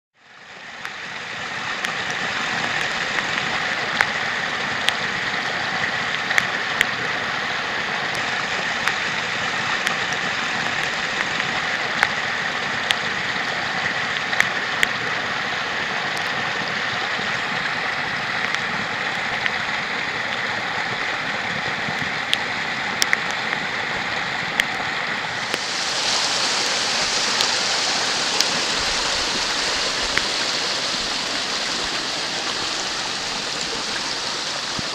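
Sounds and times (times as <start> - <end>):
creek water rushing: 0.2 - 34.9.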